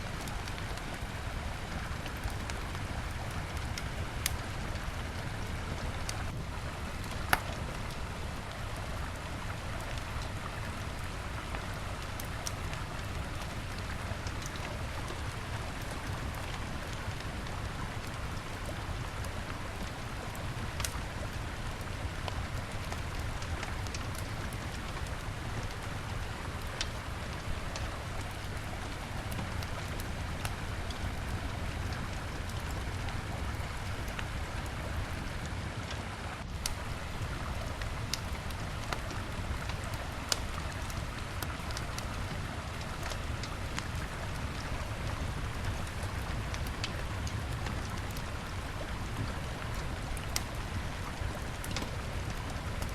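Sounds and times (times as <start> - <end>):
bonfire crackling and popping: 0.0 - 52.9.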